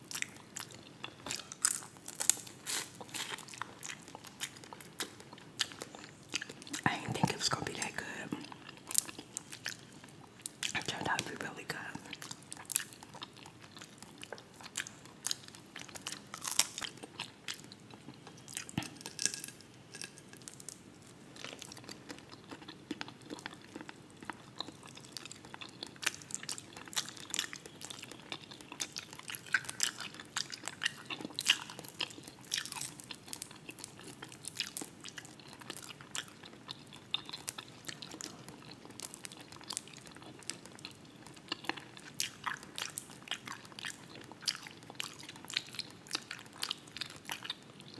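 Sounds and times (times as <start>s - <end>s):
chewing and crunching fried fish: 0.0s - 47.9s.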